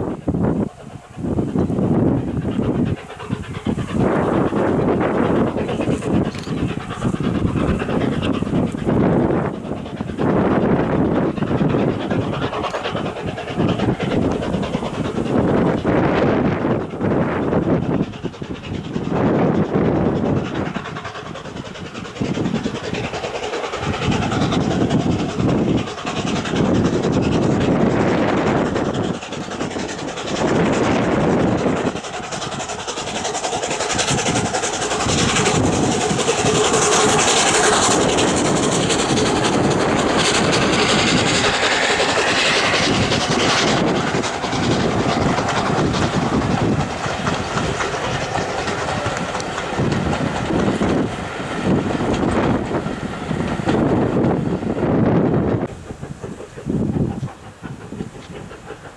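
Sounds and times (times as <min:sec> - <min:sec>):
steam locomotive exhaust and hiss: 0:00.0 - 0:58.9
train wheels clattering over rail joints: 0:00.0 - 0:58.9.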